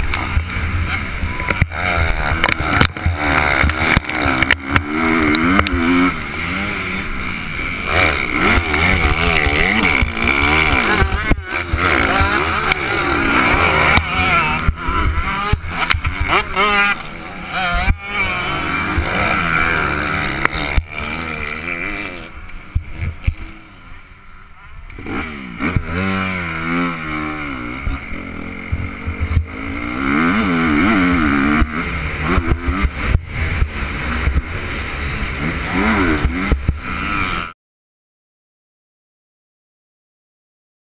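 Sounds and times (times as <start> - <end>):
dirt bike engine revving: 0.0 - 37.6.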